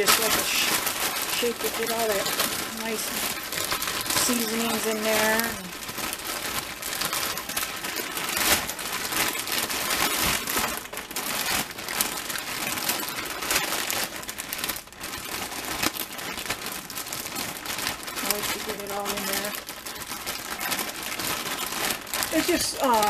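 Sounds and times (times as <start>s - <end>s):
plastic bag crinkling: 0.0s - 23.0s.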